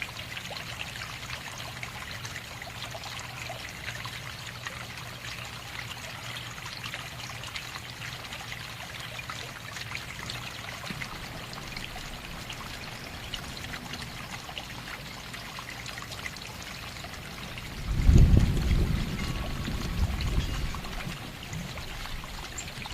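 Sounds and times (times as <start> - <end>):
water trickling: 0.0 - 22.9.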